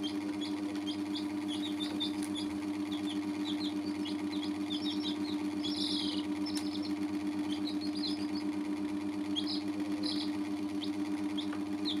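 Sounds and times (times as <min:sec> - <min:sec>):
chicks cheeping: 0:00.0 - 0:12.0
pulsing low mechanical hum: 0:00.0 - 0:12.0.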